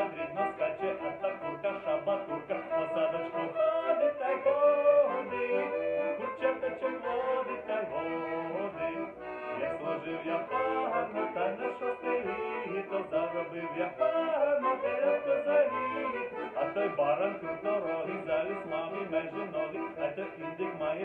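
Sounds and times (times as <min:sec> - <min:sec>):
accordion playing folk tune: 0:00.0 - 0:21.0
violin playing folk tune: 0:00.0 - 0:21.0.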